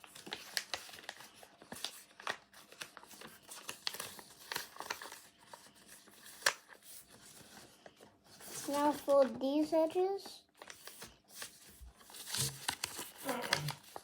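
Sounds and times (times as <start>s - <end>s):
paper crackle: 0.0s - 14.0s
paper rustling and crinkling: 0.0s - 14.0s.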